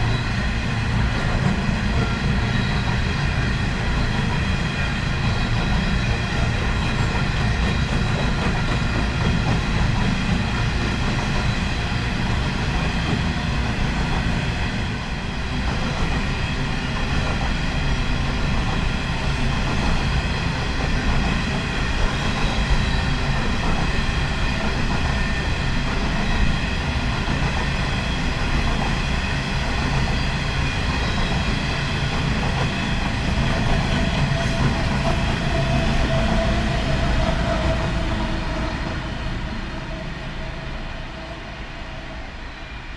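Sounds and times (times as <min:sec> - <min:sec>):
train wagons rumbling on rails: 0:00.0 - 0:42.9.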